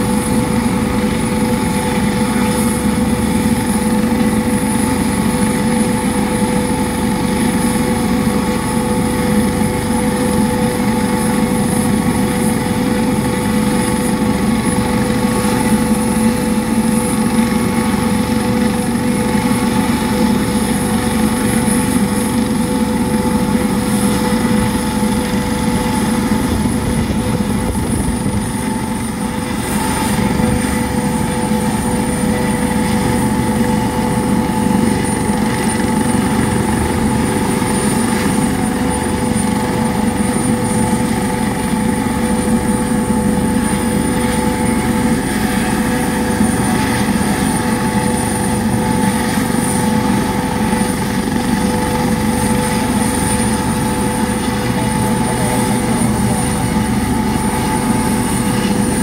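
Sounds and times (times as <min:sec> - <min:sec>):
helicopter turbine whine and rotor: 0:00.0 - 0:59.0.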